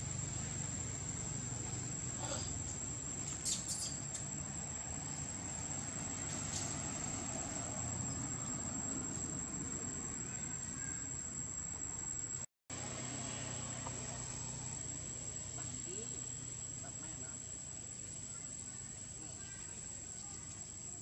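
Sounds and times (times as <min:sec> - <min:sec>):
low steady rumble: 0:00.0 - 0:10.2, 0:11.2 - 0:21.0
insects chorus high tone: 0:00.0 - 0:21.0.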